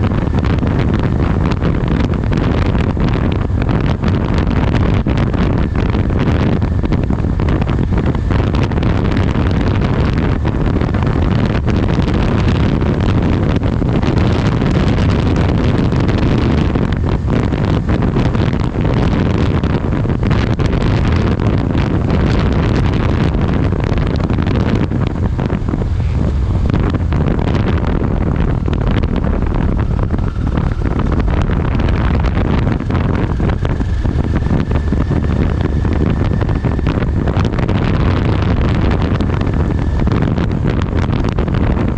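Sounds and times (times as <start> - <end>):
low vehicle rumble: 0.0 - 41.9
wind buffeting microphone: 0.0 - 41.9.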